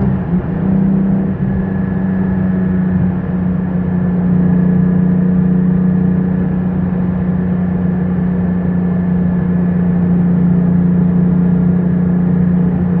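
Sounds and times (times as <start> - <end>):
car engine droning at steady revs: 0.0 - 13.0.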